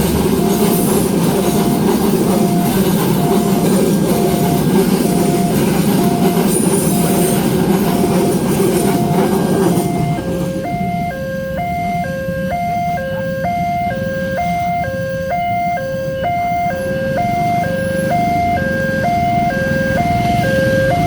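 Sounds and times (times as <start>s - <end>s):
level-crossing two-tone alarm: 0.0s - 21.0s.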